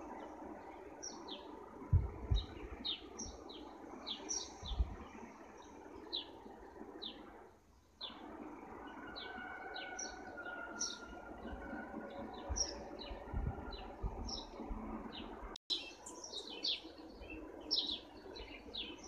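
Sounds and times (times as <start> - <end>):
sparrows chirping: 0.0 - 19.0
steady background hum: 0.0 - 19.0.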